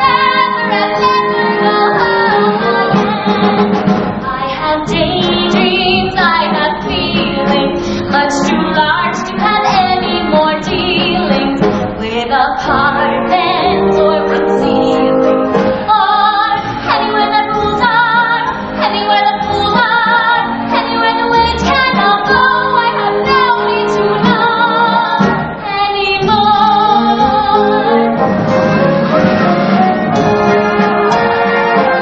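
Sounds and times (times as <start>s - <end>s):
woman singing with vibrato: 0.0s - 28.2s
pit orchestra playing: 0.0s - 32.0s.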